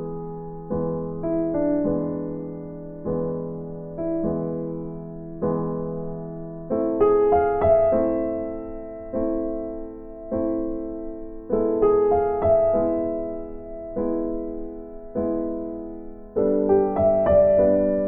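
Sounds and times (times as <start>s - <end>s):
electric piano chords: 0.0s - 18.0s.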